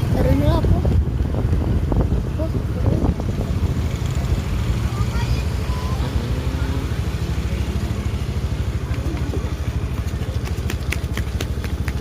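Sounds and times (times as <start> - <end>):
vehicle engine throbbing: 0.0 - 12.0.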